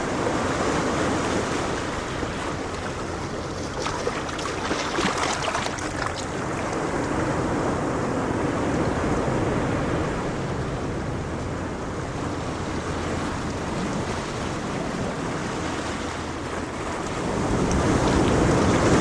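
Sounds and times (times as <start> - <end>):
ocean waves washing on shore: 0.0 - 19.0.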